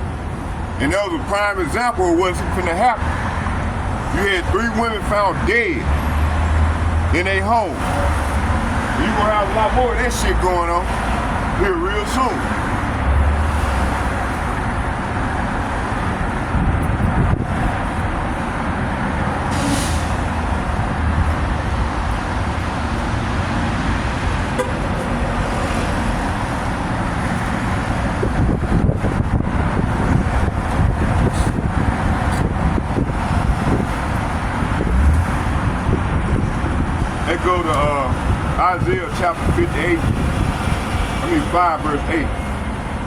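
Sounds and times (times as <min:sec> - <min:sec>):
vehicle rumble with hiss: 0:00.0 - 0:43.0.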